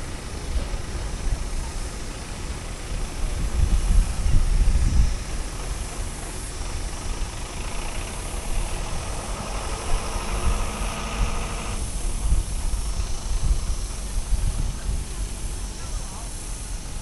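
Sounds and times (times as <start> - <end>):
high hiss: 0.0 - 17.0
truck engine rumbling: 0.0 - 17.0.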